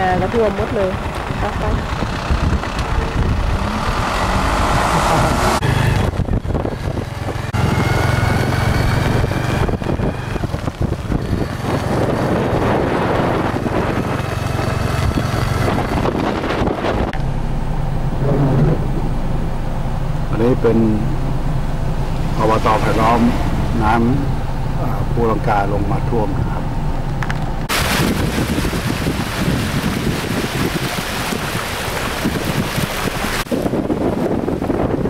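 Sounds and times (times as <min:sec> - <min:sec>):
car engine and tyre rumble: 0:00.0 - 0:35.0
wind buffeting microphone: 0:00.0 - 0:35.0.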